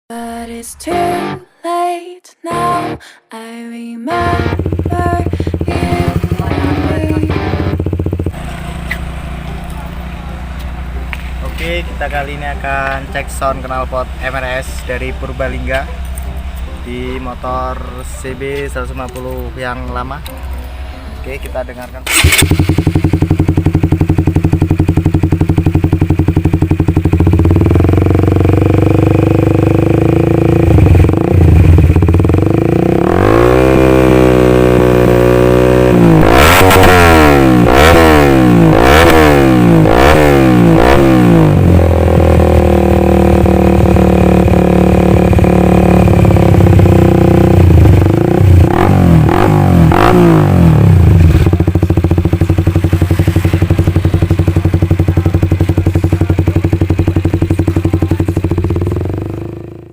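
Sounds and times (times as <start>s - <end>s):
motorcycle engine revving and idling: 4.2s - 59.9s.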